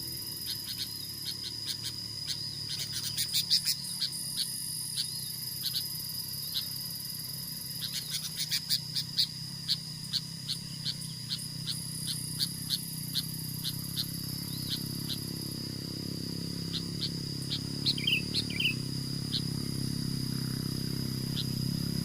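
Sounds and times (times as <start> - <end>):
insect drone: 0.0 - 22.0
short sharp insect chirps: 0.0 - 22.0.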